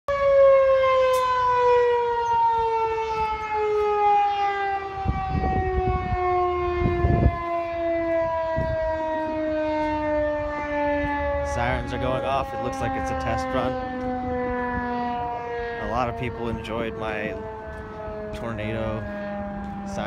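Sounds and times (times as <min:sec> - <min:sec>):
outdoor warning siren wailing: 0:00.1 - 0:20.0.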